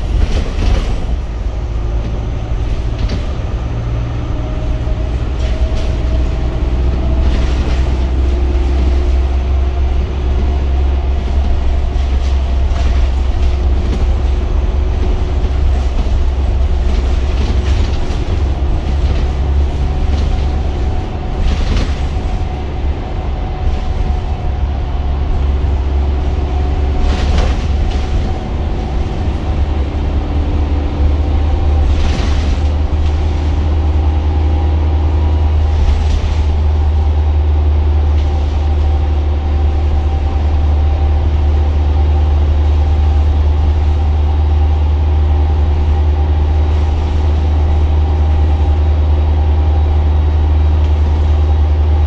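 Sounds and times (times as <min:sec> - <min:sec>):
bus body rattles and knocks: 0:00.0 - 0:52.0
bus engine drone: 0:00.0 - 0:52.0.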